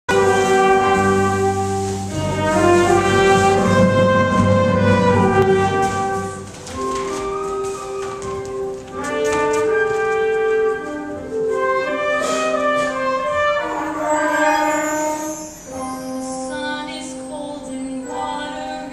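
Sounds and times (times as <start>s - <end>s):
instrumental music: 0.0s - 18.9s.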